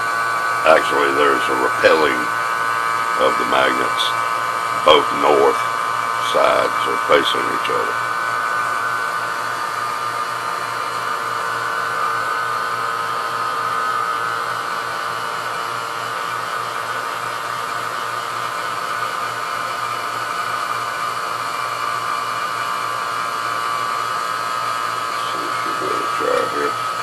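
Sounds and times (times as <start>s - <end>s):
vacuum pump running: 0.0s - 27.0s.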